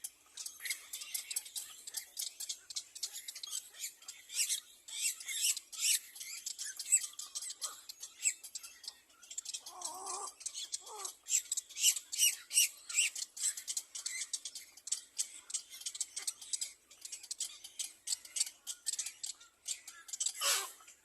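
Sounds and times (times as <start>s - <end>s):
nestling birds cheeping: 0.0s - 21.0s.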